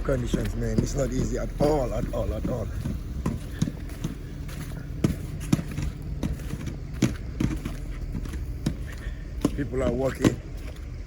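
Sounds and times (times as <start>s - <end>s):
footsteps in snow: 0.0s - 11.0s
steady low rumble: 0.0s - 11.0s.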